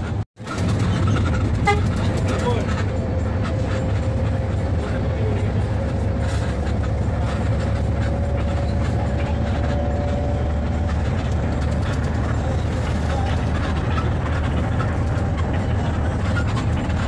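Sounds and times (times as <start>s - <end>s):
bus engine drone: 0.0s - 17.0s
road rumble: 0.0s - 17.0s.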